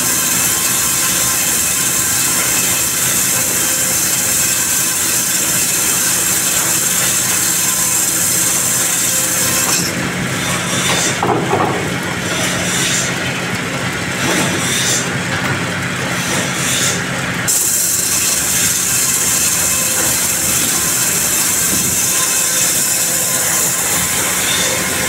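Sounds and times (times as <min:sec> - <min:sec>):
bright hissy saw noise: 0:00.0 - 0:11.2, 0:16.2 - 0:25.0
sawmill saw humming: 0:00.0 - 0:25.0.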